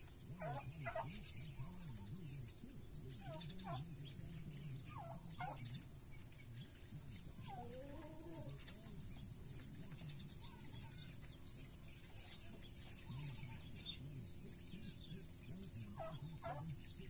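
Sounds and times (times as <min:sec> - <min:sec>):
turkeys calling: 0:00.0 - 0:17.0.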